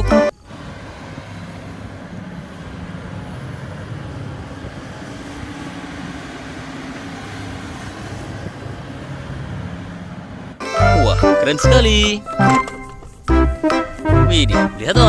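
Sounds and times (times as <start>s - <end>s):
heavy vehicle engine drone: 0.0s - 15.0s.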